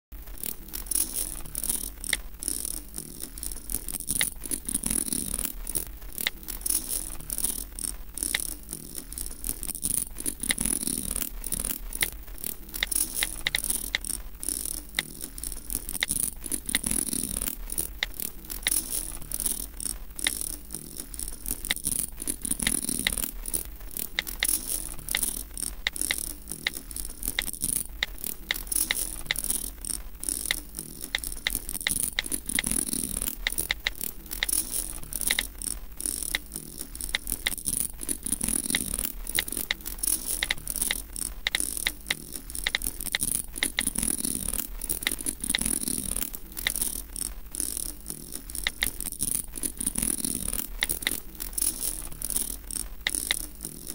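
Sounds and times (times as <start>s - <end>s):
rapid irregular clicks and rattles: 0.1s - 53.9s.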